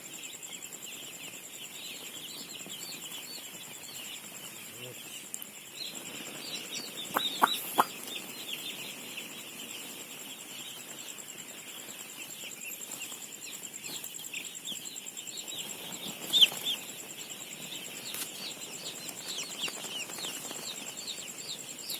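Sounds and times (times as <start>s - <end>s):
chicks peeping: 0.1s - 21.9s.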